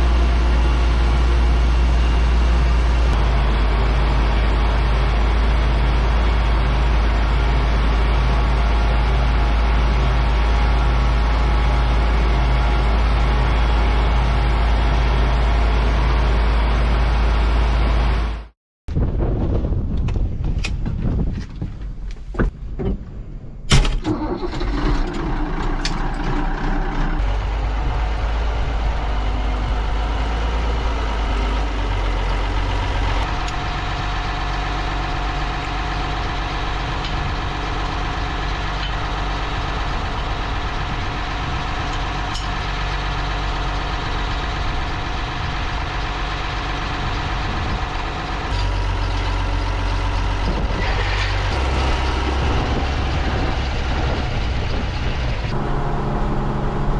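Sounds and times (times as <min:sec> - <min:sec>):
tractor engine running: 0:00.0 - 0:18.5, 0:19.1 - 0:56.9.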